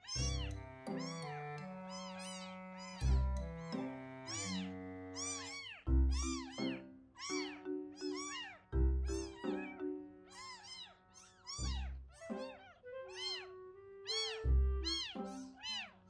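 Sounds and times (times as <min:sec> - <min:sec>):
kittens mewing: 0:00.0 - 0:01.3, 0:01.9 - 0:03.7, 0:04.3 - 0:16.0
background music with held chords: 0:00.1 - 0:10.3, 0:11.6 - 0:15.8.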